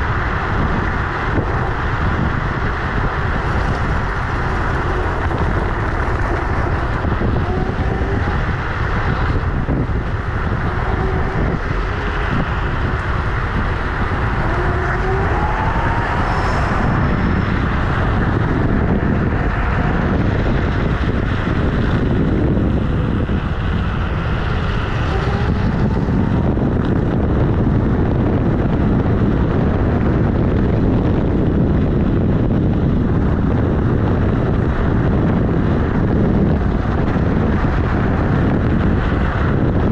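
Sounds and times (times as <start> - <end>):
faint whine: 0.0 - 39.9
tyre rumbling on road: 0.0 - 39.9
wind buffeting on microphone: 0.0 - 39.9.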